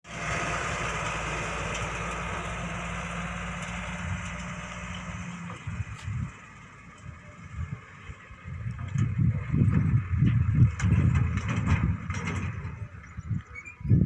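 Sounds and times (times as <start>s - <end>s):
heavy diesel engine running: 0.0s - 14.0s
low rumbles: 0.0s - 14.0s.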